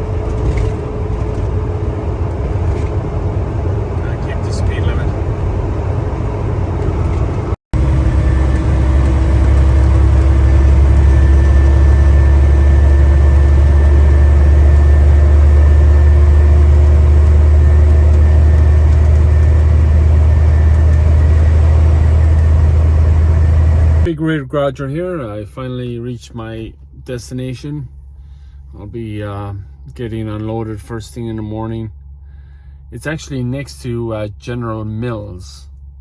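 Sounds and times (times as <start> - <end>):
truck diesel engine: 0.0 - 31.3.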